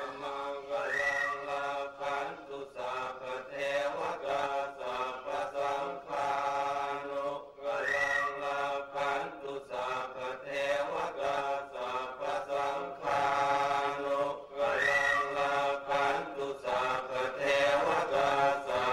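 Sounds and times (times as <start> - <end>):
monks chanting in unison: 0.0 - 18.9.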